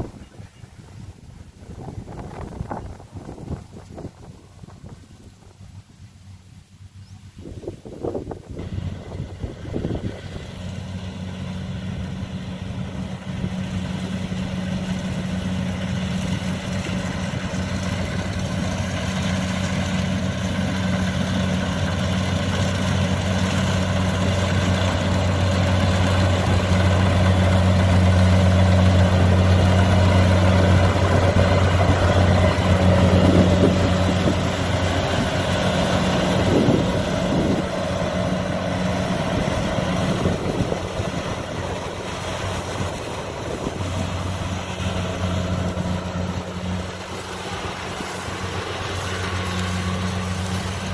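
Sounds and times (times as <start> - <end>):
combine harvester diesel engine: 0.0 - 50.9.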